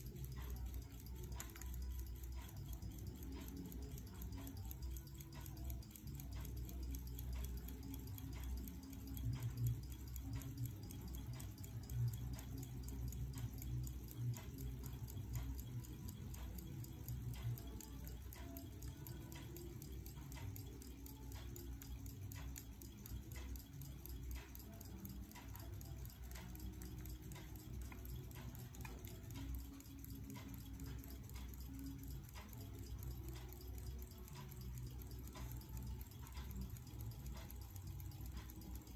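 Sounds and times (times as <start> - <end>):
pocket watch ticking: 0.0 - 38.9.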